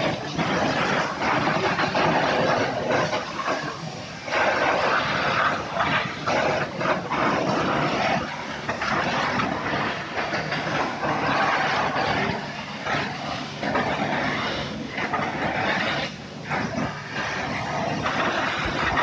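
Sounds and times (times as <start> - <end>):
pressure washer water jet hissing: 0.0 - 19.0
washer pump humming: 0.0 - 19.0.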